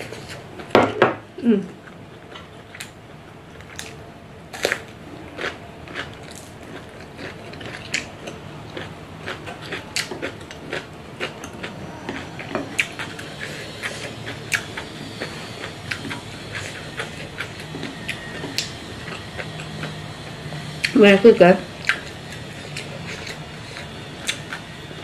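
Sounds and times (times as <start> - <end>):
crunchy chewing: 1.8 - 21.0, 21.6 - 25.0.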